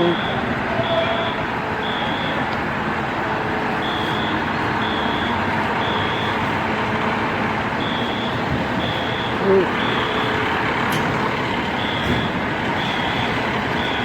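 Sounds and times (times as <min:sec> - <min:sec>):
heavy engine: 0:00.0 - 0:14.0
street noise: 0:00.0 - 0:14.0
truck reversing alarm beeping: 0:00.0 - 0:14.0.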